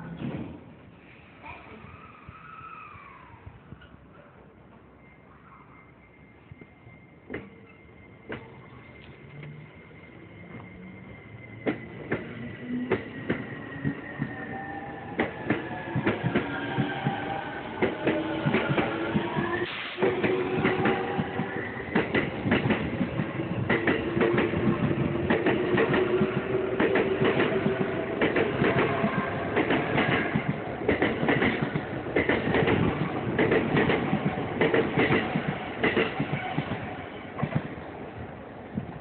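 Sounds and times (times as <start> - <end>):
train steady whine: 0.0 - 39.0.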